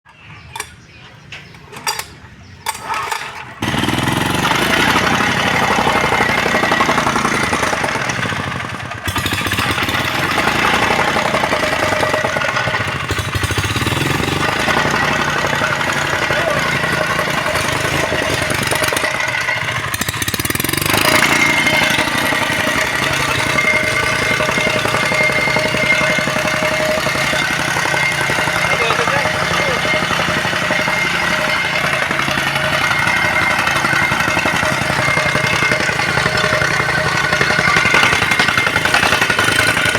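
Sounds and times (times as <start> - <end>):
tamping rammer engine running: 2.6 - 39.9.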